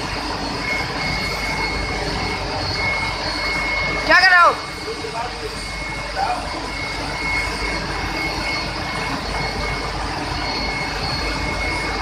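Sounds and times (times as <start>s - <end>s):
high-pitched whine: 0.0s - 12.0s
machinery drone: 0.0s - 12.0s.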